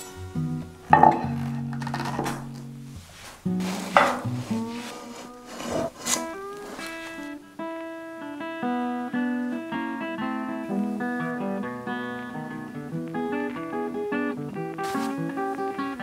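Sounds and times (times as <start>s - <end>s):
acoustic guitar melody: 0.0s - 16.0s.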